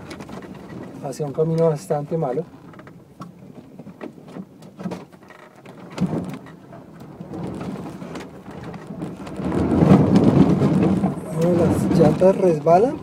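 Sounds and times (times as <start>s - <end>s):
suspension knocks and rattles: 0.0s - 13.0s.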